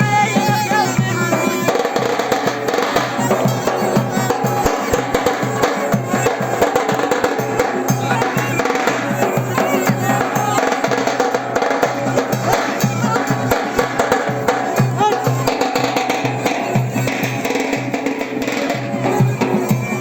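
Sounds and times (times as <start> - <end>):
fast drums and percussion: 0.0 - 20.0.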